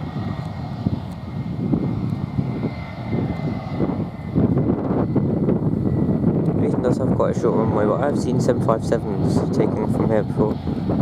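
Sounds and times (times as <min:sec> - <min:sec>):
jet engines whining: 0:00.0 - 0:11.0
wind rumbling on microphone: 0:00.0 - 0:11.0.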